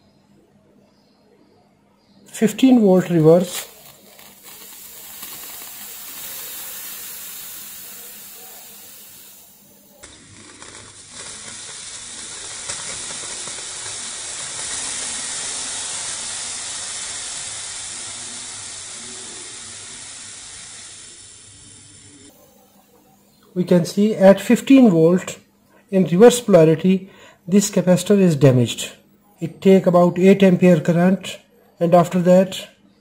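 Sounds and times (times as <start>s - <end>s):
capacitor hissing as it vents: 2.3s - 32.7s.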